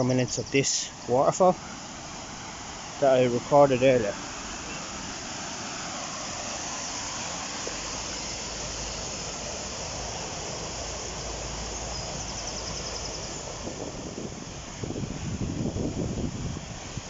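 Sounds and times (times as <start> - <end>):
water rushing over waterfall: 0.0 - 17.0.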